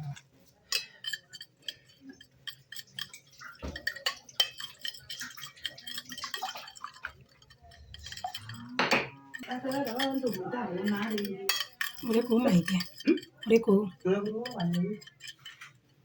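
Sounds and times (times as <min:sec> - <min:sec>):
dishes clinking: 0:00.0 - 0:16.0.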